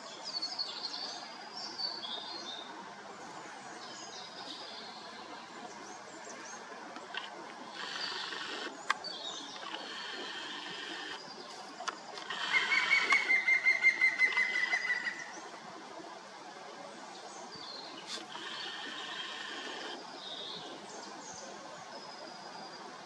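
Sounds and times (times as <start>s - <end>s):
songbirds chirping: 0.0s - 23.0s
steady outdoor hiss: 0.0s - 23.0s.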